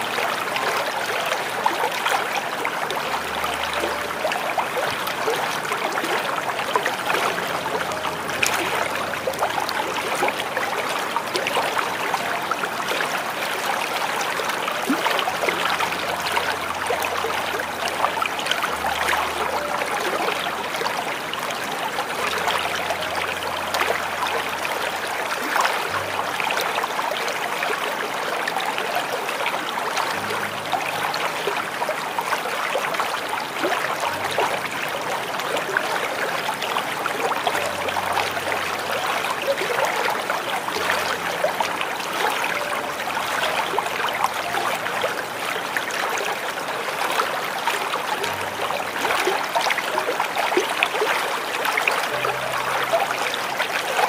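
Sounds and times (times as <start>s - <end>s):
small waterfall splashing: 0.0s - 54.0s.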